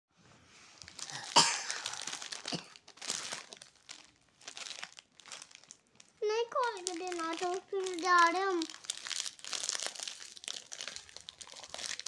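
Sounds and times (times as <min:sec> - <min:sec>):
plastic wrapper crinkling: 0:00.8 - 0:12.0.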